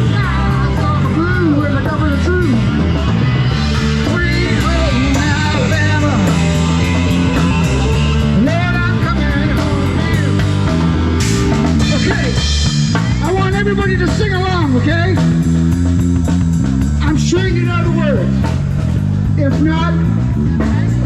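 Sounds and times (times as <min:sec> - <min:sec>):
rock music with drums and guitar: 0:00.0 - 0:21.0.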